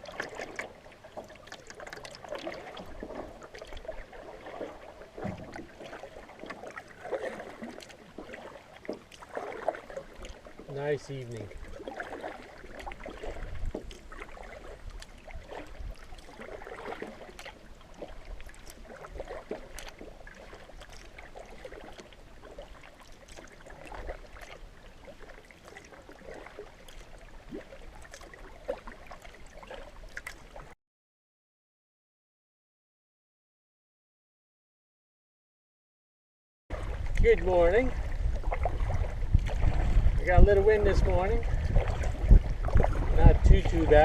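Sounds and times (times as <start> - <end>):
water splashing around a canoe: 0.0 - 30.8, 36.7 - 44.0.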